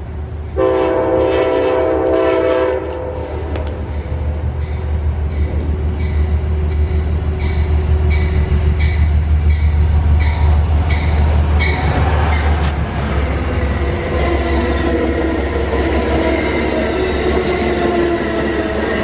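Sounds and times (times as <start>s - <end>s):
train rumbling by: 0.0s - 19.0s
train wheels clicking: 2.0s - 19.0s.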